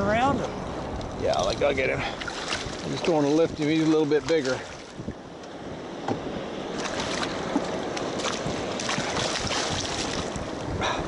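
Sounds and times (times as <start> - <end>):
water splashing and sloshing: 0.0 - 11.0
wind on microphone: 0.0 - 11.0.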